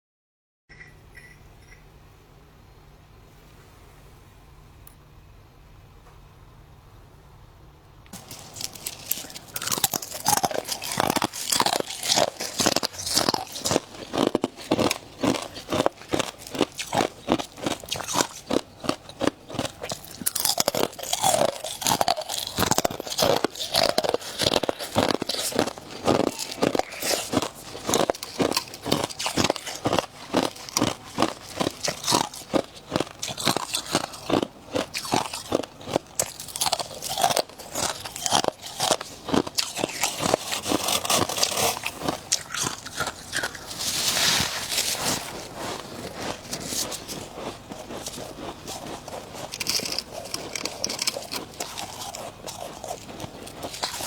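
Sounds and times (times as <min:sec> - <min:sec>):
ice being chewed crunching: 0:08.1 - 0:54.0.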